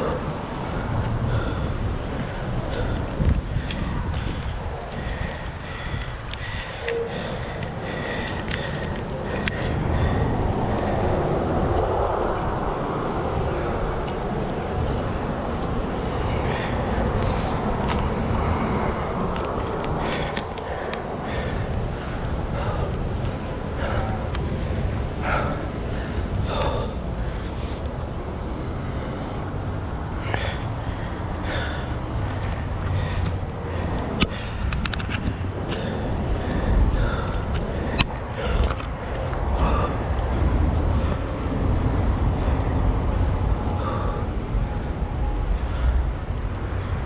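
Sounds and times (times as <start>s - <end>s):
person breathing heavily: 0.0s - 47.0s
wind buffeting microphone: 0.0s - 47.0s.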